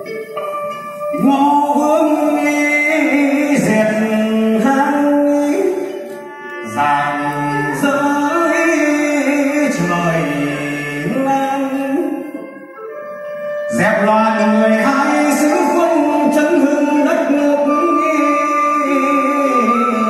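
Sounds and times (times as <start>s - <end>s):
instrumental accompaniment: 0.0s - 20.0s
person singing long notes: 0.0s - 20.0s.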